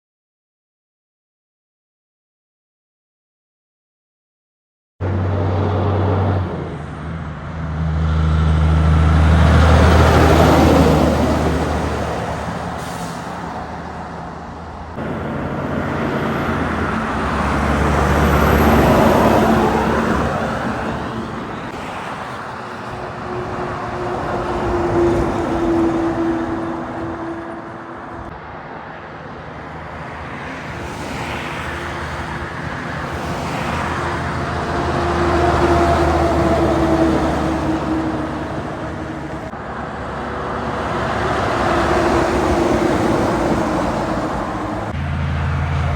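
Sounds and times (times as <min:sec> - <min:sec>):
trucks and traffic passing: 0:05.0 - 0:45.9.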